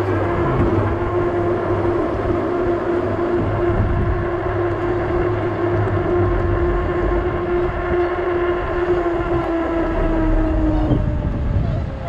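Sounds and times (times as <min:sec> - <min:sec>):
electric hub motor whine: 0:00.0 - 0:12.0
fat tires rolling on pavement: 0:00.0 - 0:12.0
low rumble: 0:00.0 - 0:12.0.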